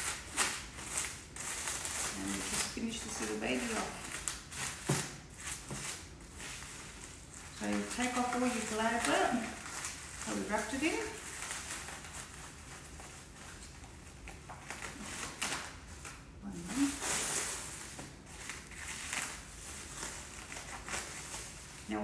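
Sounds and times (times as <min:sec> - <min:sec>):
cling wrap crinkling: 0:00.0 - 0:22.0.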